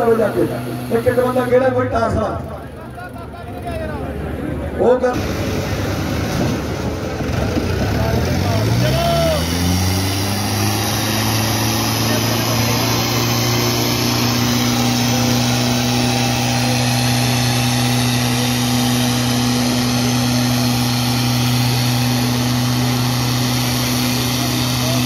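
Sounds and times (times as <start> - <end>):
tractor diesel engines at high revs: 0.0 - 25.0.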